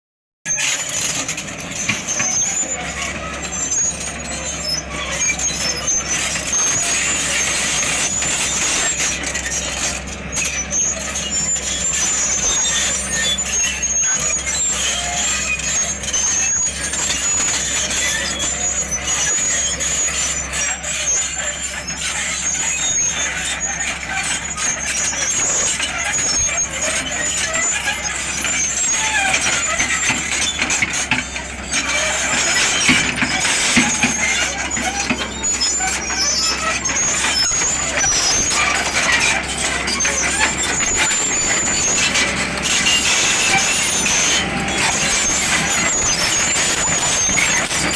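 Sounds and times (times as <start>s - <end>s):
excavator engine drone: 0.5s - 47.9s
high-pitched squeal: 0.5s - 47.9s.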